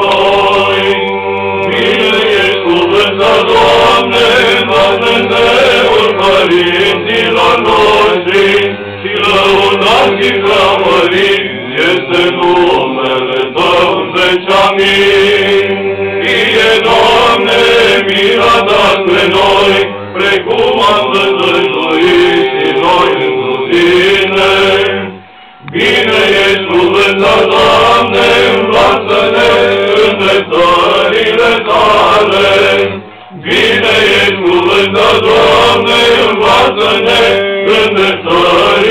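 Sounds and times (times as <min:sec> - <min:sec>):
men chanting: 0:00.0 - 0:38.9.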